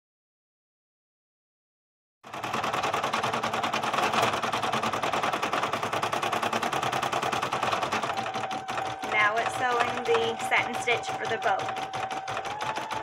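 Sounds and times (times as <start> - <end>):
embroidery machine stitching: 2.3 - 13.0.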